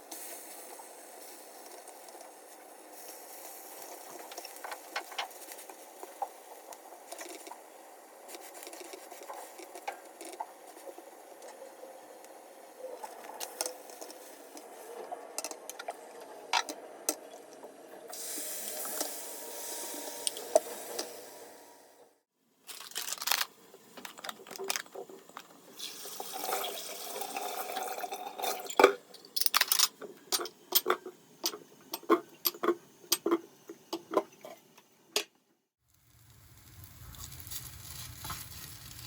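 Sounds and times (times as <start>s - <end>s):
stove hissing and bubbling: 0.0s - 22.3s, 23.5s - 35.3s, 35.9s - 39.0s.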